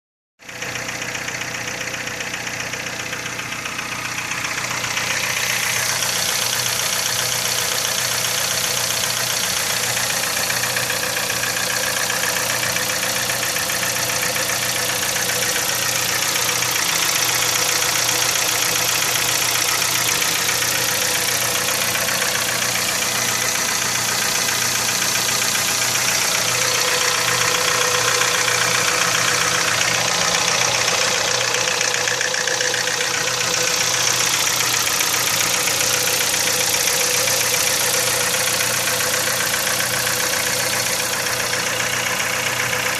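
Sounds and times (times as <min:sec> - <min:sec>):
petrol engine knocking: 0:00.5 - 0:42.9.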